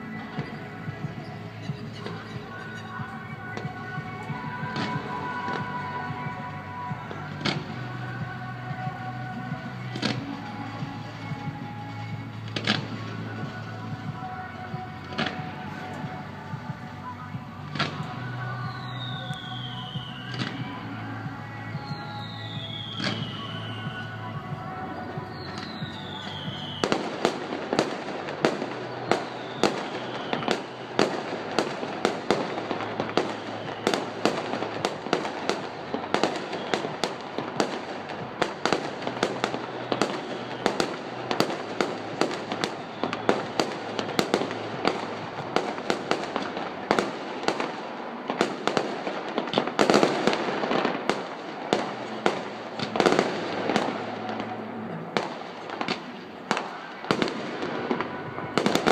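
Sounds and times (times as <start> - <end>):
falling firework whistle: 0.0 - 58.9
fireworks bangs and crackles: 0.0 - 58.9.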